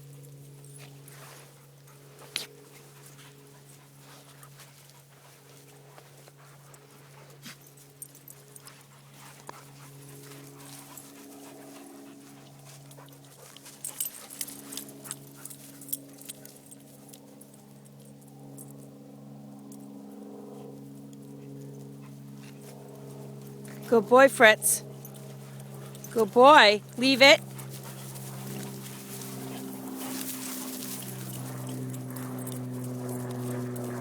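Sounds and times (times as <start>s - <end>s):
dogs panting: 0.2s - 18.1s, 20.4s - 34.0s.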